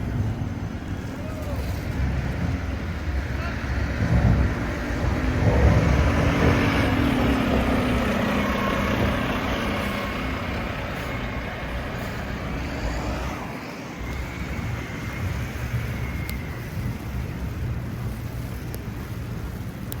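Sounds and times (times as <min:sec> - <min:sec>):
heavy vehicle engine passing: 0:00.0 - 0:18.1
street rumble: 0:00.0 - 0:20.0.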